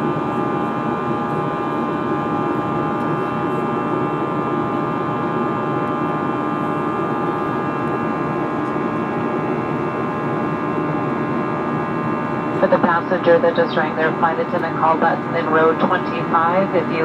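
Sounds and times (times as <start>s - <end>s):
steady whining tones: 0.0s - 17.0s.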